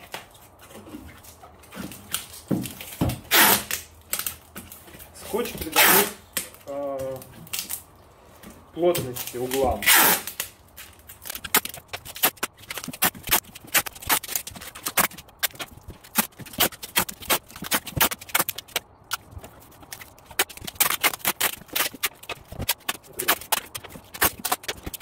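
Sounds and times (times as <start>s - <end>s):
packing tape crackling: 0.0s - 7.9s, 8.9s - 25.0s.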